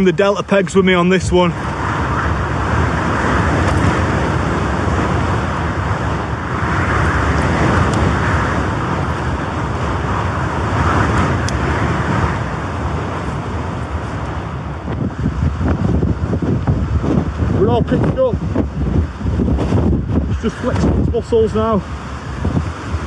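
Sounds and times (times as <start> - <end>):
strong gusting wind: 0.0 - 23.0
wind buffeting microphone: 0.0 - 23.0.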